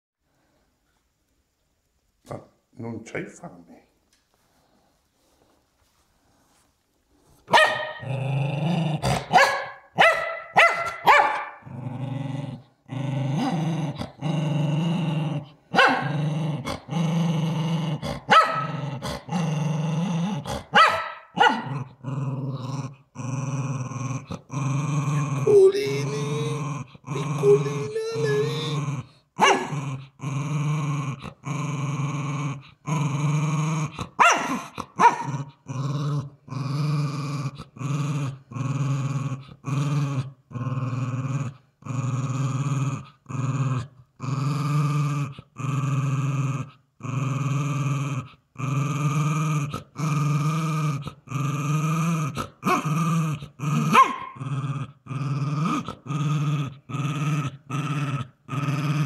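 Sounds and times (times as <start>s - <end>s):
small dog growling: 8.0s - 9.4s, 11.5s - 59.0s.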